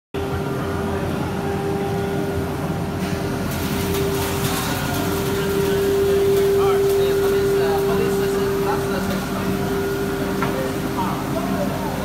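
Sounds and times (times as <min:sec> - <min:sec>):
machine whine over low rumble: 0:00.2 - 0:12.0.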